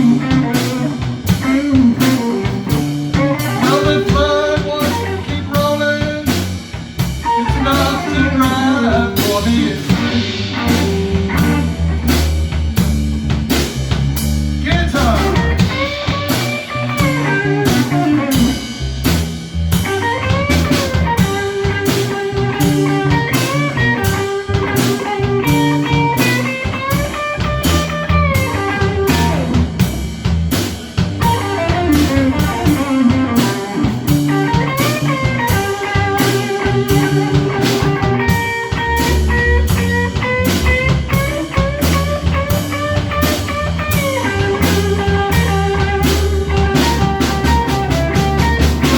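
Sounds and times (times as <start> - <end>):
blues band playing: 0.0 - 48.9
electric guitar lead: 0.0 - 48.9.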